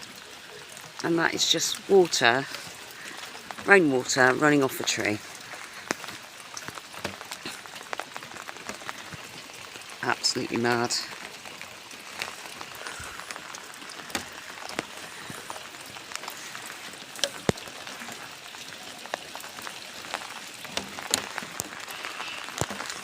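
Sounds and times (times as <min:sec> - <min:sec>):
rainwater running off tree: 0:00.0 - 0:23.0
steady rain falling: 0:00.0 - 0:23.0.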